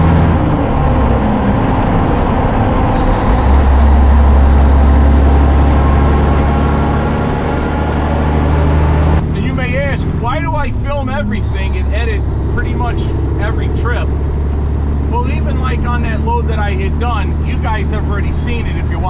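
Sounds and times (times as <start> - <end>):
truck engine drone: 0.0 - 19.0
tyre and road noise: 0.0 - 19.0.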